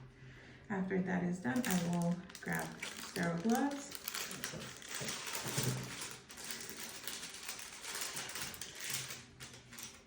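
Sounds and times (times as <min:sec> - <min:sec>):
paper wrapper crinkling: 0:01.5 - 0:10.0.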